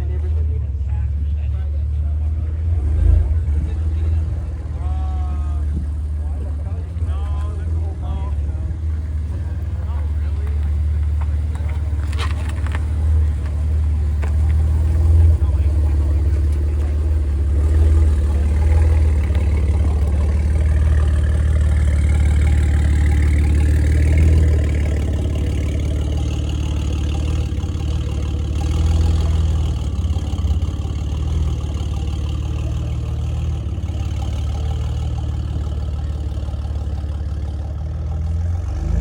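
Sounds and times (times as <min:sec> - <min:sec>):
car engine droning: 0:00.0 - 0:39.0.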